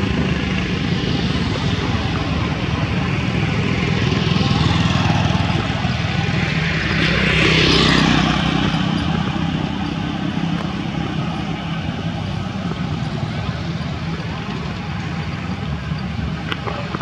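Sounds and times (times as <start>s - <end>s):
steady traffic engine hum: 0.0s - 17.0s.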